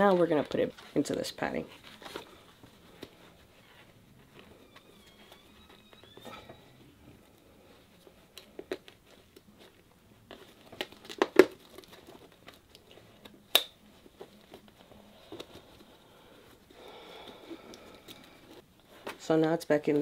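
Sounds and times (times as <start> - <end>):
fabric rustling and crinkling: 0.0 - 16.7.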